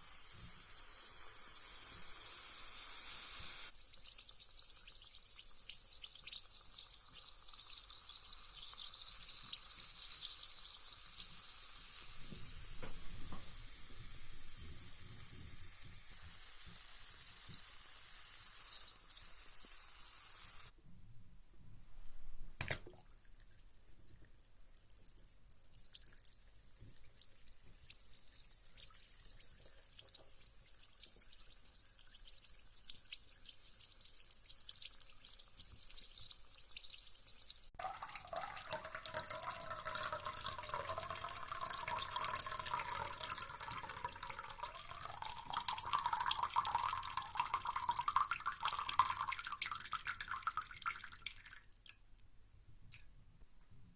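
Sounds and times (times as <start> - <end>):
bath bomb fizzing in water: 0.0 - 20.7, 24.8 - 51.6.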